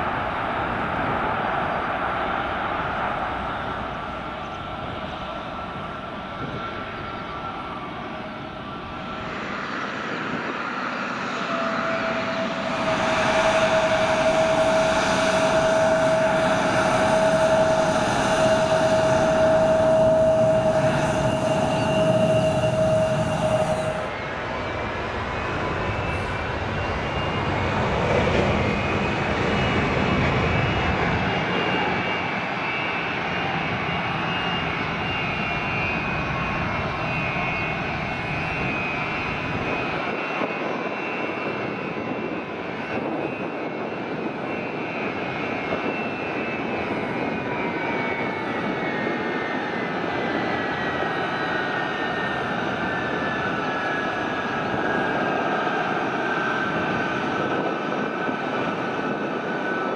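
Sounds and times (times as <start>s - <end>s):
high engine whine: 0.0s - 59.9s
jet engines roaring: 0.0s - 59.9s.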